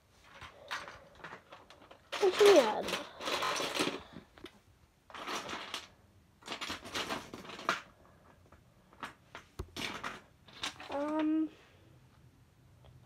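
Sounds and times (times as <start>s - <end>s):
plastic toys rummaged and clattering: 0.1s - 11.5s.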